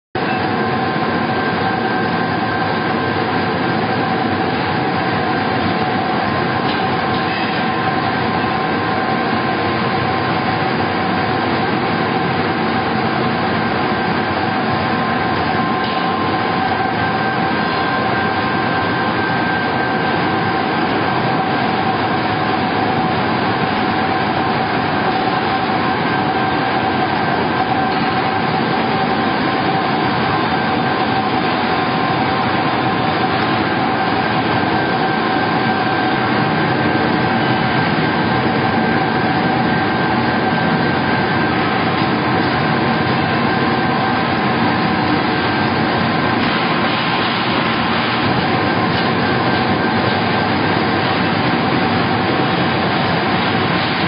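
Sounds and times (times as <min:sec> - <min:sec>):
machine whining tones: 0:00.2 - 0:54.0
pellet mill machine noise: 0:00.2 - 0:54.0.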